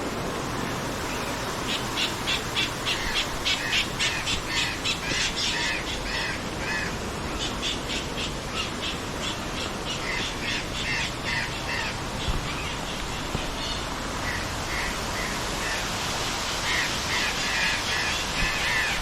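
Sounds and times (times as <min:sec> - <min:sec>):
steady background hiss: 0:00.0 - 0:19.0
birds calling: 0:01.0 - 0:19.0.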